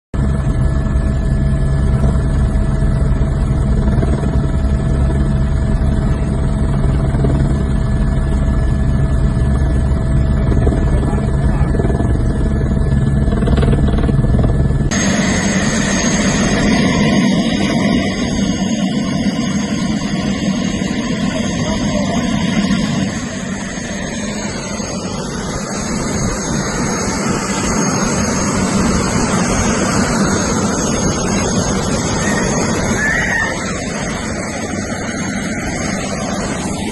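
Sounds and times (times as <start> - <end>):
helicopter engine and rotor drone: 0.1 - 36.9
engine and wind noise: 0.2 - 36.9.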